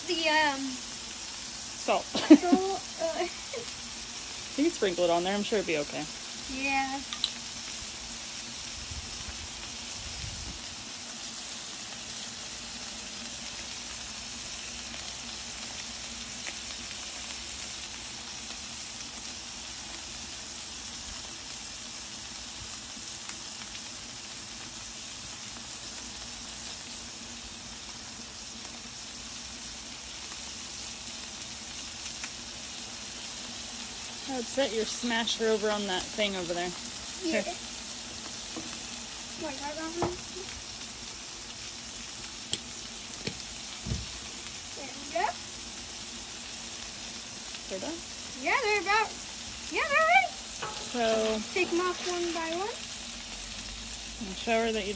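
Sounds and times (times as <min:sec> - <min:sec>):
burger patties sizzling on griddle: 0:00.0 - 0:54.9.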